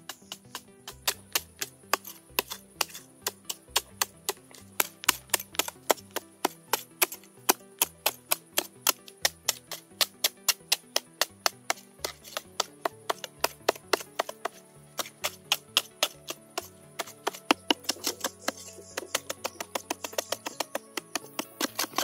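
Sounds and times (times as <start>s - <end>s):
hand tool chipping hard earth: 0.0s - 22.0s.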